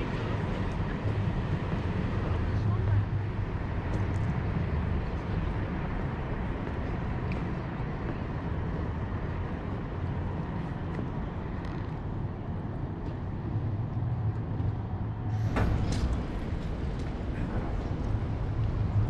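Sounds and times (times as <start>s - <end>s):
low rumble of city traffic: 0.0s - 19.0s.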